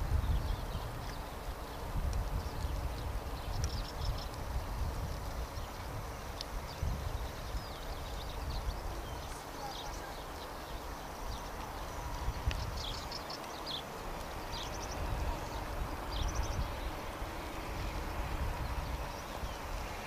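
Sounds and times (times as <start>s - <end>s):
small birds chirping: 0.1s - 20.0s.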